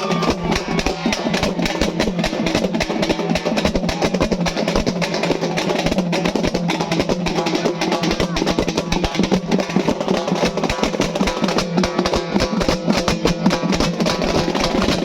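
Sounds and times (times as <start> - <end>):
frame drums beaten fast: 0.0 - 15.0.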